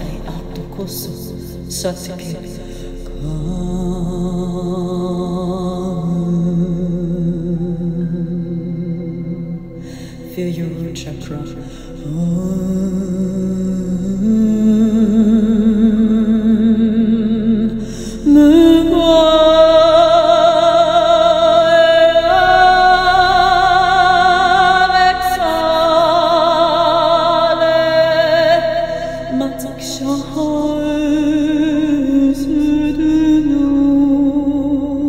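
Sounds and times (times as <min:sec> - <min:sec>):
meditative music: 0:00.0 - 0:35.0
wordless singing voice: 0:00.0 - 0:35.0.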